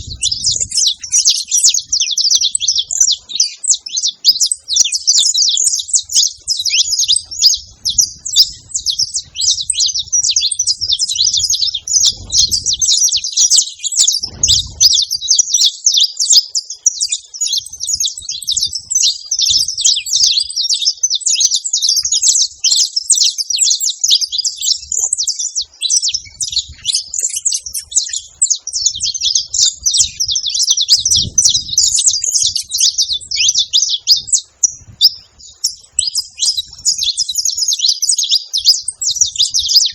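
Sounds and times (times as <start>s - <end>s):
finches chirping and chattering: 0.0s - 39.9s.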